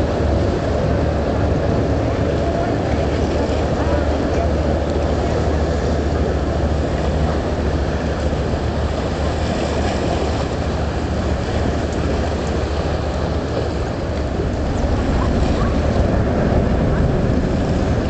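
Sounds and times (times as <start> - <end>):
boat engine droning: 0.0 - 18.0
rushing water: 0.0 - 18.0
wind noise: 0.0 - 18.0.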